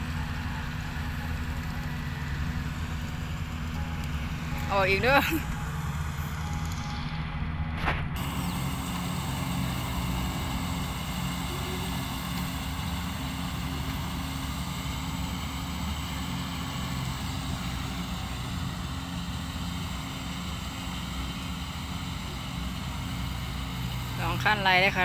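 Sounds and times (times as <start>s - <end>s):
combine harvester engines droning: 0.0s - 25.0s.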